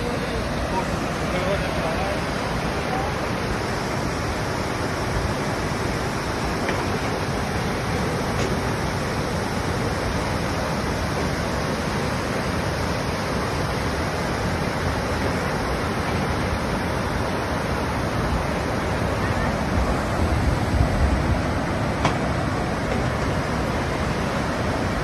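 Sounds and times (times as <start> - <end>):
waterfall and rapids rushing: 0.0 - 25.0.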